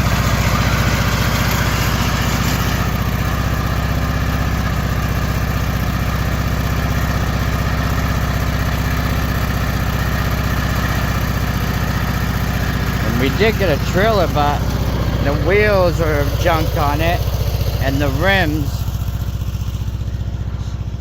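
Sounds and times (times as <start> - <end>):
lawn mower engine idling: 0.0 - 21.0.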